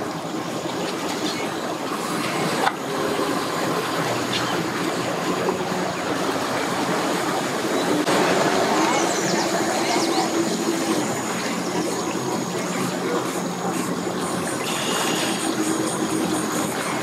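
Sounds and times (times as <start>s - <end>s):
boat ramp background noise: 0.0s - 17.0s
outboard motor running: 0.0s - 17.0s
water churning: 0.0s - 17.0s.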